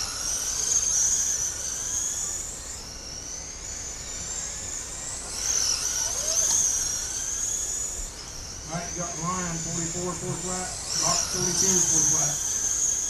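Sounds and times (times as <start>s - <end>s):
electric rc cars whining: 0.0s - 13.0s.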